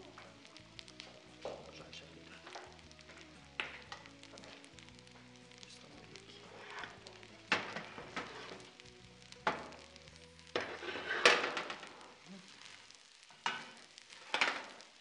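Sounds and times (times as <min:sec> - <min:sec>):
wooden spoon stirring: 0:00.0 - 0:08.8, 0:09.4 - 0:12.8
bulgur sizzling in a pot: 0:00.0 - 0:15.0.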